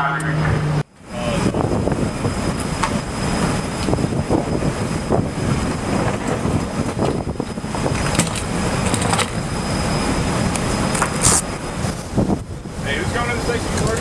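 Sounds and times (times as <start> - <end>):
faint high whine: 0.0 - 14.0
ship machinery rumble: 0.0 - 14.0
wind across deck: 0.5 - 14.0.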